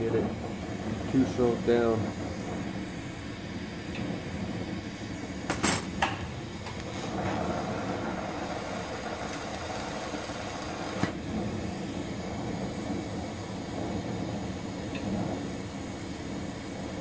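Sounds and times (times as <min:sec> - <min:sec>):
torch flame rushing: 0:00.0 - 0:17.0.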